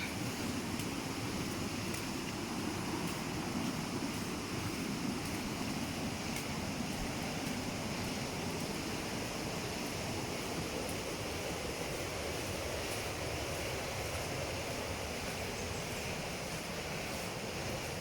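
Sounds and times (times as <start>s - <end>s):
rushing waterfall or stream: 0.0s - 18.0s.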